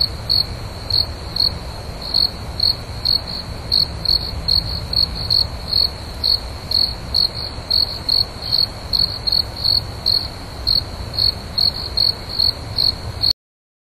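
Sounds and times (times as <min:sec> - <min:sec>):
cricket chirping: 0:00.0 - 0:13.3.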